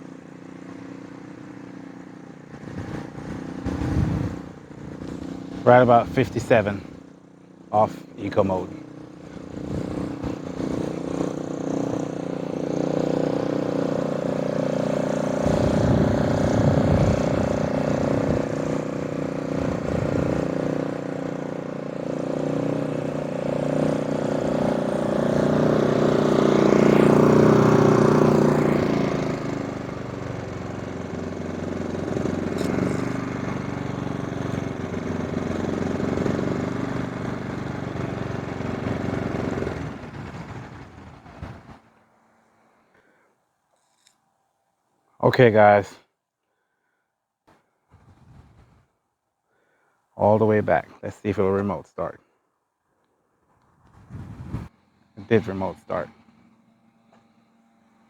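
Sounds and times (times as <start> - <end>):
generator engine running: 0.0 - 42.5, 50.2 - 52.1, 54.0 - 58.0.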